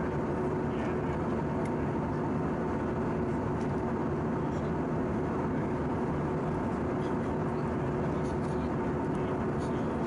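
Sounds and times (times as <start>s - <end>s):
airliner cabin air rush and engine hum: 0.0s - 10.0s.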